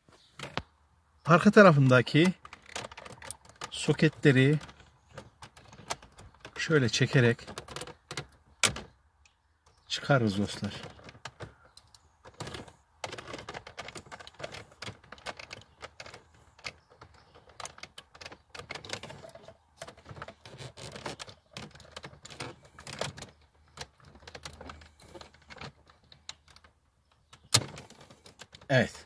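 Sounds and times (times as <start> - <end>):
plastic clicks and rattles: 2.1 - 9.9, 10.5 - 28.7.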